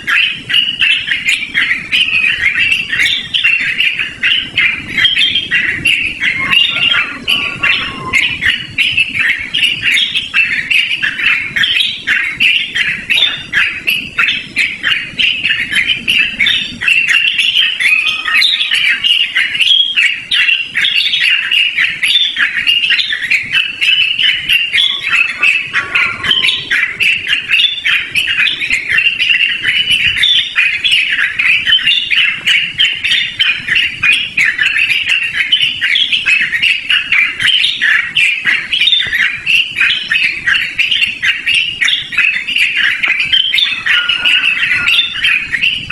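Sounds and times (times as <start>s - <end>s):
bulbul singing warbled notes: 0.0s - 45.9s.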